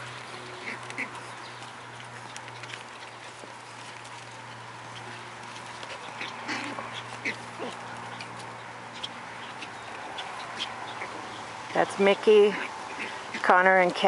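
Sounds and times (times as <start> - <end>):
puppies yipping and growling: 0.0 - 11.7, 12.5 - 13.5.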